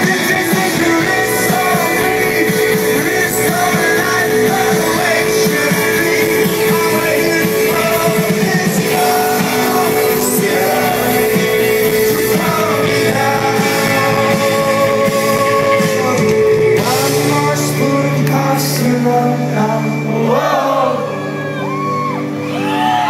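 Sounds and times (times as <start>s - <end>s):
lead singer singing: 0.0s - 22.1s
live rock band playing: 0.0s - 23.0s.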